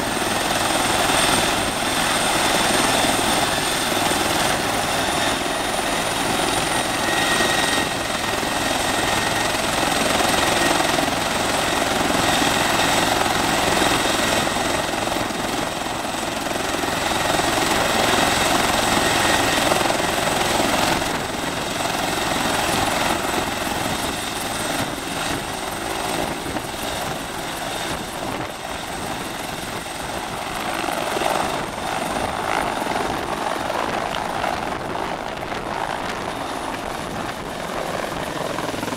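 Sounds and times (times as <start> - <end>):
helicopter rotor and engine: 0.0 - 38.9
helicopter turbine whine: 0.0 - 38.9.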